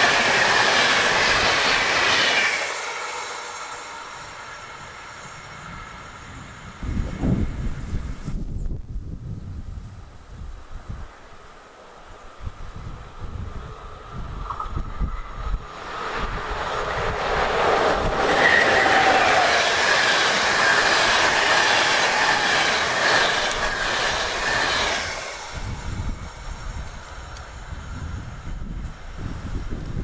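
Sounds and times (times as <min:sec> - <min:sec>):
train passing at speed: 0:00.0 - 0:08.7, 0:10.1 - 0:30.0
high whine from train wheels: 0:00.0 - 0:30.0
wind on microphone: 0:04.8 - 0:11.2, 0:12.3 - 0:30.0.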